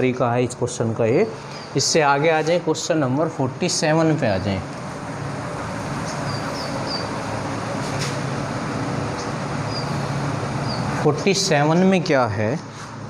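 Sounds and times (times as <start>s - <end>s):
fan humming and rushing: 0.0s - 13.0s.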